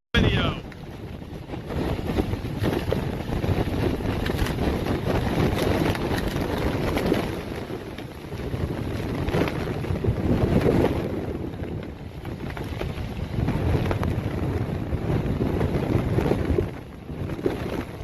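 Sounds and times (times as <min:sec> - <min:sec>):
strong wind buffeting microphone: 0:00.2 - 0:18.0.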